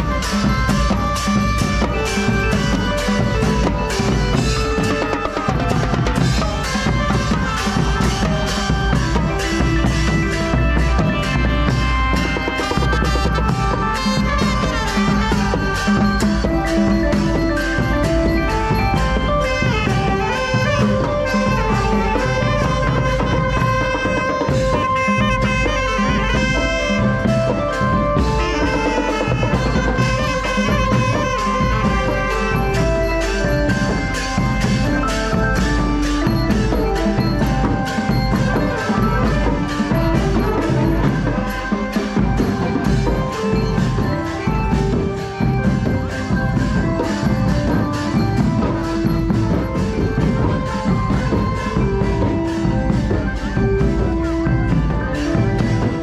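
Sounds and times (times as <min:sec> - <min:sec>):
brass band horns: 0:00.0 - 0:56.0
steady drumbeat: 0:00.0 - 0:56.0.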